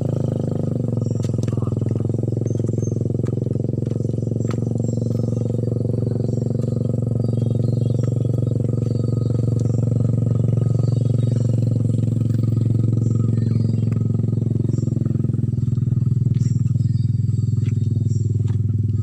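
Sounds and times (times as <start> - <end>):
steady engine drone: 0.0 - 19.0.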